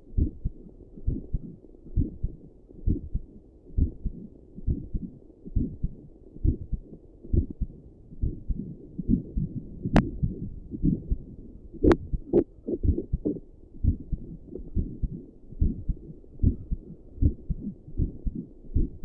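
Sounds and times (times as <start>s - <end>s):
heartbeat thumps: 0.1s - 19.0s.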